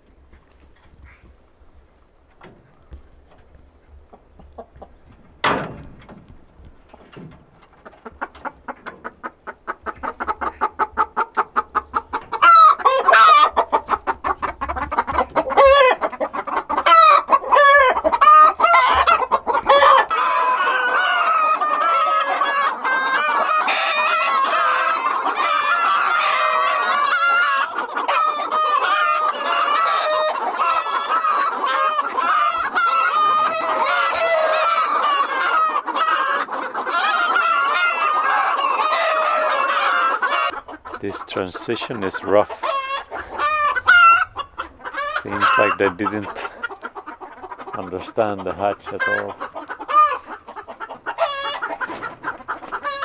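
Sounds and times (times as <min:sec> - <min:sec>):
chickens clucking: 0:00.0 - 0:53.0.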